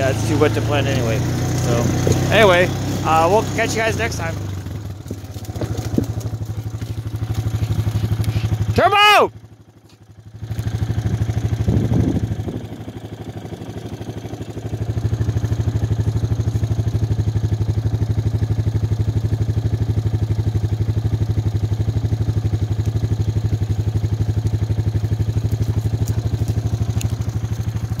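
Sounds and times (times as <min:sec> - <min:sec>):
atv engine droning: 0:00.0 - 0:28.0.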